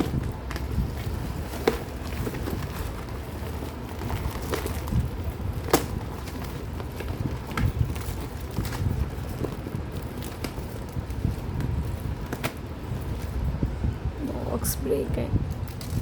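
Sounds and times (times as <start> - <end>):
packaging rustling and crinkling: 0.0 - 13.7, 15.5 - 16.0.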